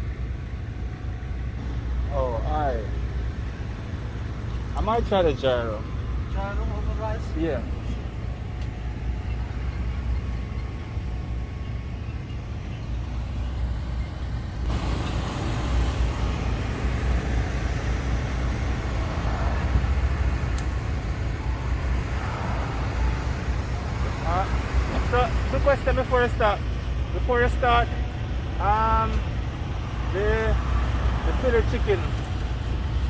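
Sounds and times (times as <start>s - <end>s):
low engine rumble: 0.0s - 33.0s.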